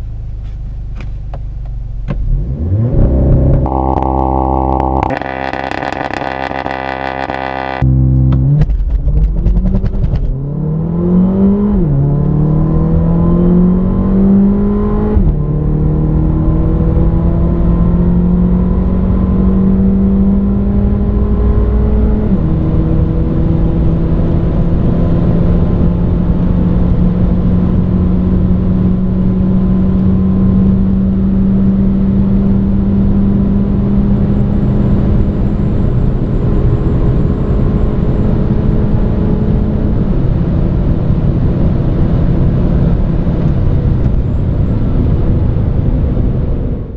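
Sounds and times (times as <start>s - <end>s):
car engine accelerating hard: 1.7s - 46.9s.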